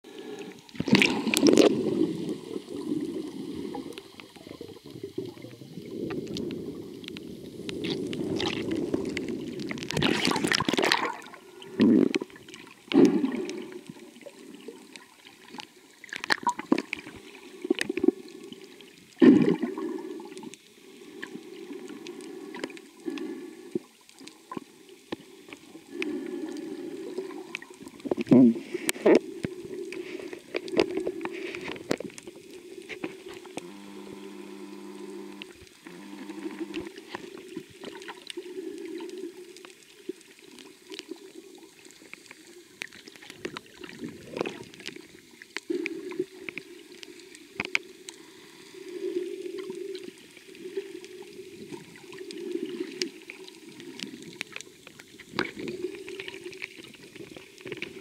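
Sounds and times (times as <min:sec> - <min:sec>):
muffled underwater sloshing and bubbling: 0:00.0 - 0:58.0.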